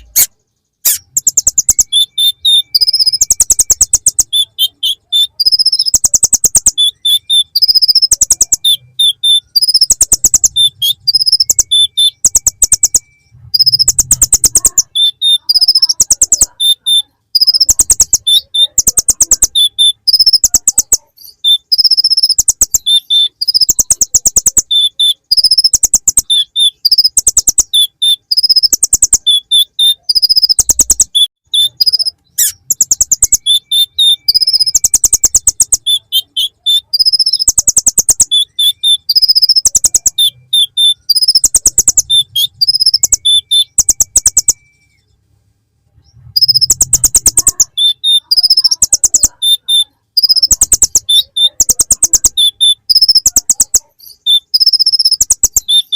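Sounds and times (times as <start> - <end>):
bird singing rapid rattling trills: 0.0 - 44.7, 46.4 - 55.9.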